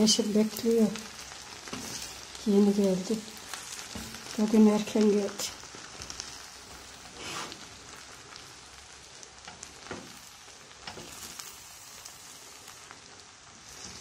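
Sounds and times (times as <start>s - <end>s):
faint sizzle from hot pan: 0.0s - 14.0s
spoon stirring grains in a pan: 0.0s - 14.0s.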